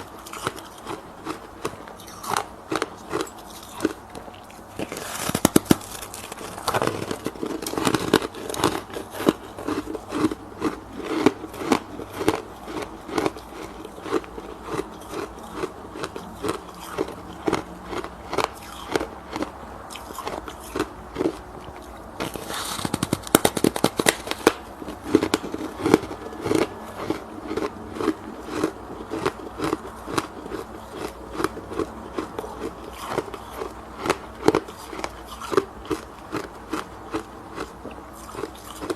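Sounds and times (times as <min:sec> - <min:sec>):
chewing crunchy frost: 0:00.0 - 0:38.9.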